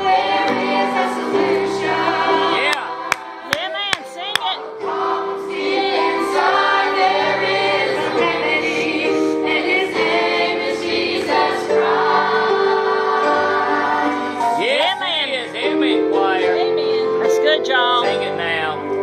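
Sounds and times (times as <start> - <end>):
choir singing a hymn: 0.0 - 3.8, 4.6 - 19.0
held accompaniment chords: 0.0 - 19.0.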